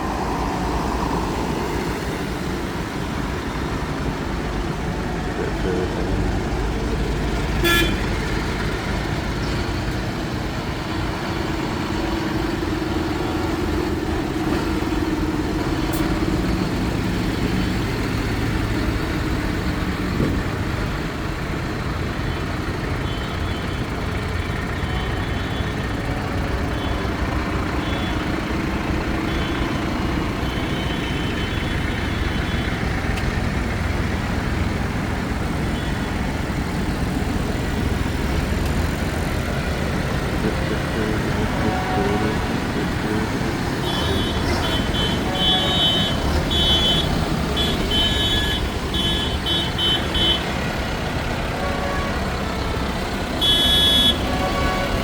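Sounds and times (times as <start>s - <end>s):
tractor engines rumbling: 0.0s - 55.0s.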